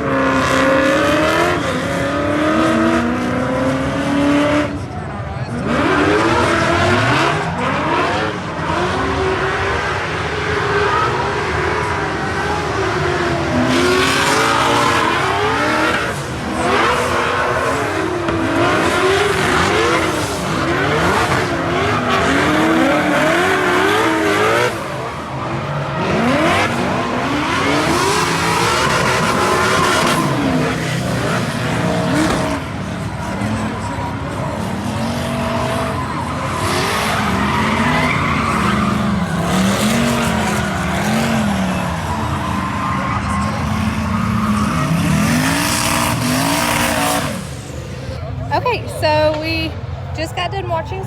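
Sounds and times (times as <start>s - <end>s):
car engines revving: 0.0s - 51.0s
tire squeal: 5.5s - 48.1s.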